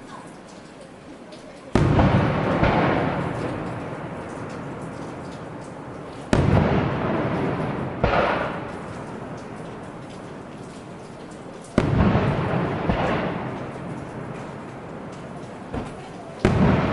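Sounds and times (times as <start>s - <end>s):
firework bangs: 1.7s - 16.9s
rolling rumble: 1.7s - 16.9s.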